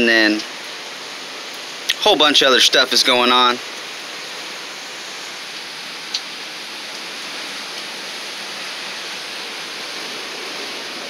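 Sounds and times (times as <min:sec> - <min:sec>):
rain and wind hissing: 0:00.0 - 0:11.0.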